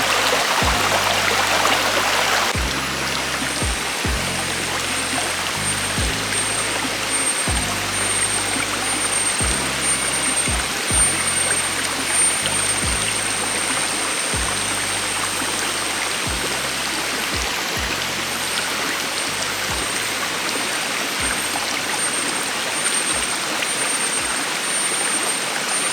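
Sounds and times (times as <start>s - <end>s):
lofi hip-hop music: 0.0s - 23.6s
rushing stream water: 0.0s - 25.9s.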